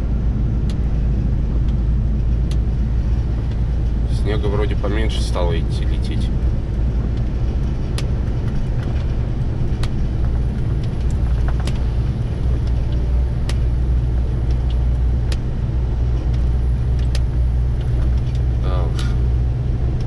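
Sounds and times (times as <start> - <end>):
road noise: 0.0 - 20.0
truck engine drone: 0.0 - 20.0.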